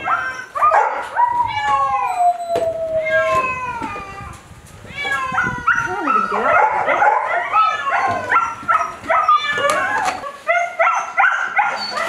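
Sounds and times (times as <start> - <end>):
cats meowing: 0.0 - 10.2.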